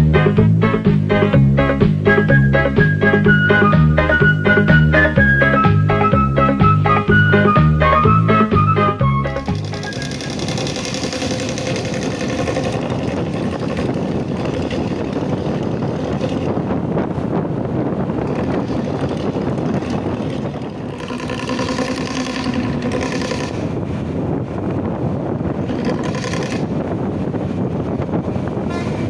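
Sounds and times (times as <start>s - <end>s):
bus exhaust rumbling: 0.0s - 29.0s
wind on microphone: 0.0s - 29.0s.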